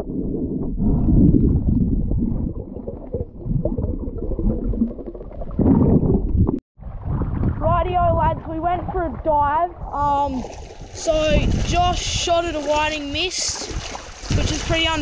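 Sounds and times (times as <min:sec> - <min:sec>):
underwater water sloshing: 0:00.0 - 0:15.0.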